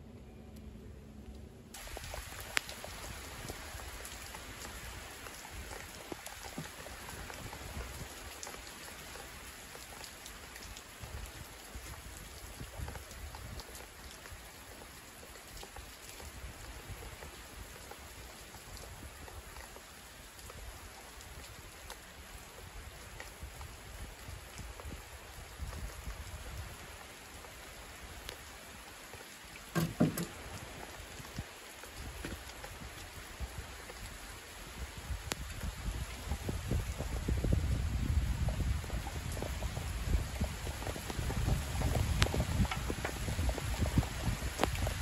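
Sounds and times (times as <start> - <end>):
steady rain falling: 1.3 - 45.0.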